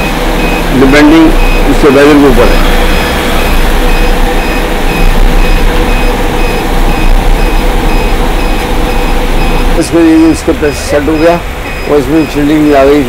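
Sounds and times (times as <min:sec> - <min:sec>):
car engine idling: 0:00.0 - 0:13.0
high electronic beep: 0:00.0 - 0:13.0.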